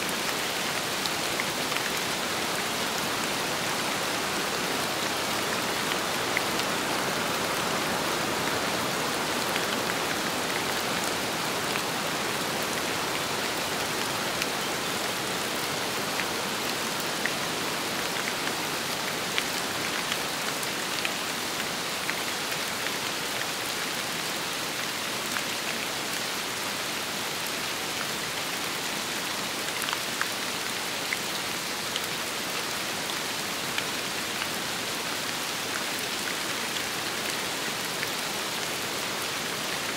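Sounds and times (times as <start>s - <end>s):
steady rain: 0.0s - 39.9s
wind: 0.0s - 39.9s.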